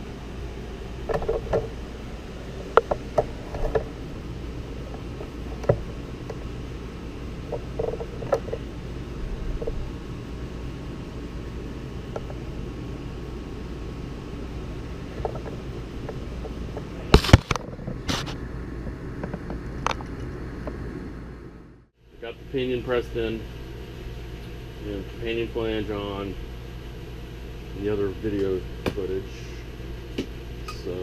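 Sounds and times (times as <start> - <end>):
workshop hum: 0.0 - 31.0.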